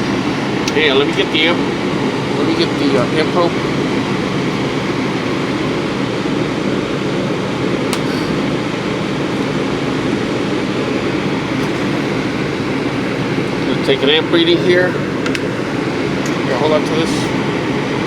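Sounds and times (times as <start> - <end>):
heater blower fan running: 0.0 - 18.0.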